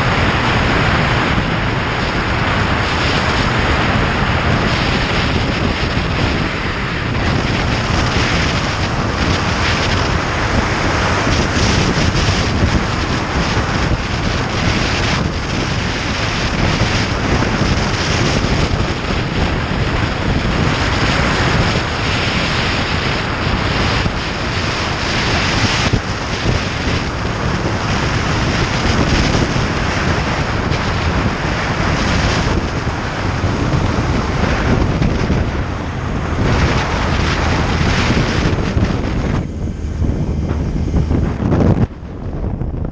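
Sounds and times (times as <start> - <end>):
motorcycle engine: 0.0 - 42.9
road noise: 0.0 - 42.9
wind buffeting microphone: 0.0 - 42.9.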